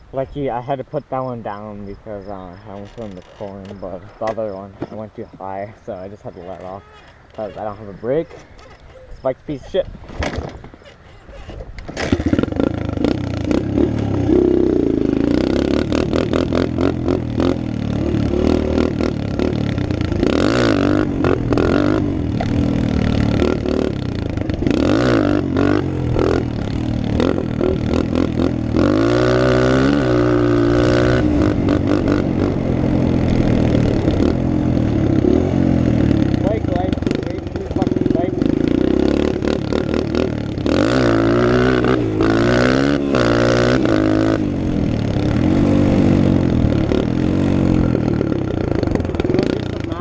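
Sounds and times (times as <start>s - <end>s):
dirt bike engine revving: 0.4s - 9.8s, 12.0s - 50.0s.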